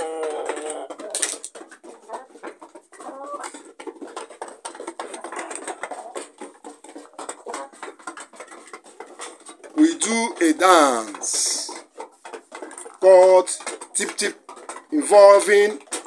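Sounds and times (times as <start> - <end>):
rooster clucking: 0.0 - 16.0.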